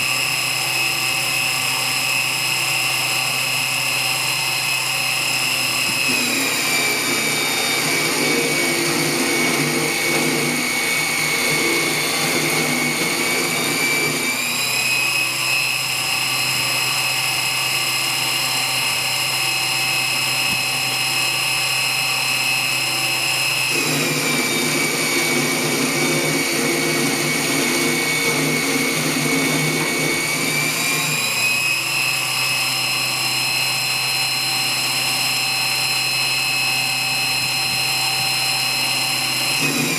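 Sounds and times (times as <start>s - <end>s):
lathe high-pitched whine: 0.0s - 39.9s.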